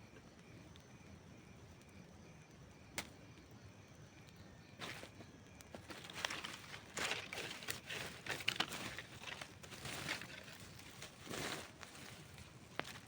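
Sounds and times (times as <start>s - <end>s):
campfire crackling and popping: 0.1s - 3.6s, 5.1s - 13.0s.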